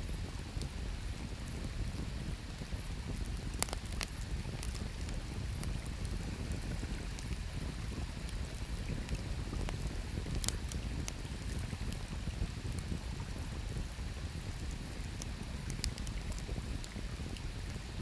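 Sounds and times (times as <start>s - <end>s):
campfire crackling and popping: 0.2s - 18.0s.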